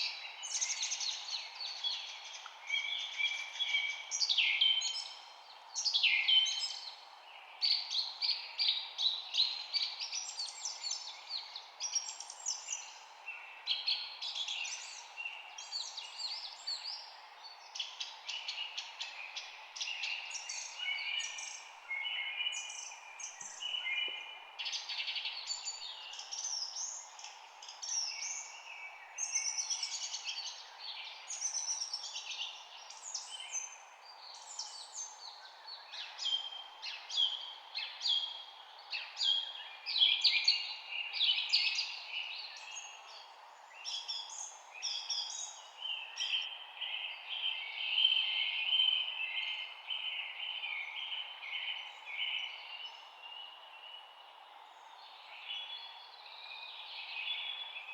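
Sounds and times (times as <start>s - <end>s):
faint background hiss: 0.0s - 57.9s
songbirds chirping and singing: 0.0s - 57.9s.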